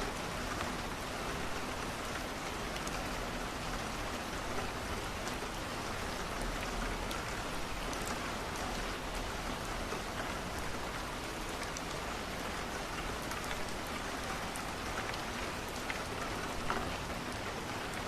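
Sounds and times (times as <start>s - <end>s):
rain pattering on a window: 0.0s - 18.0s.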